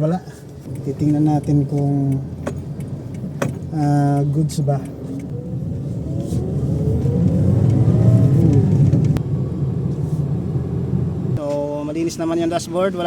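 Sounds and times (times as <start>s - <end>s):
car engine revving: 0.7s - 11.4s.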